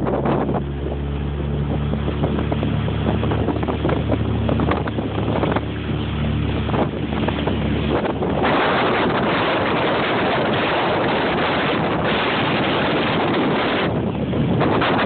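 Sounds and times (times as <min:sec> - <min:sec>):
motorboat engine running: 0:00.0 - 0:15.0
wind buffeting microphone: 0:00.0 - 0:15.0.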